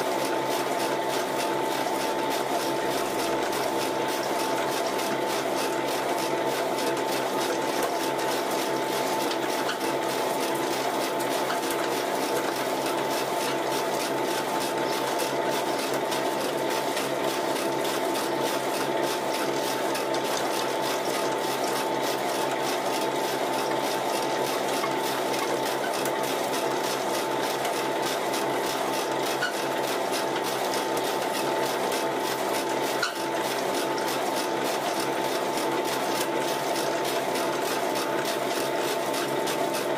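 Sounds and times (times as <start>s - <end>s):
pellet mill humming and chattering: 0.0s - 39.9s.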